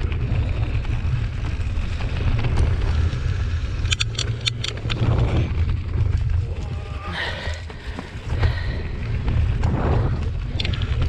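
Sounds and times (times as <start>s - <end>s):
bike clicks and rattles: 0.0s - 11.0s
bike tyres on dirt: 0.0s - 11.0s
wind on microphone: 0.0s - 11.0s.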